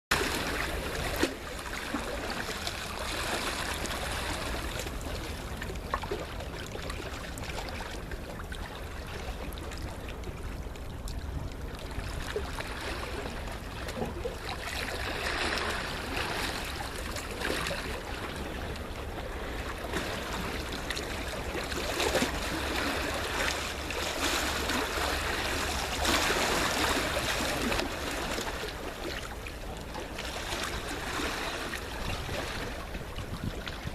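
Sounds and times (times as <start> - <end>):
sea waves washing onto shore: 0.1 - 10.7, 11.3 - 33.9
water crackling over beach: 0.1 - 33.9.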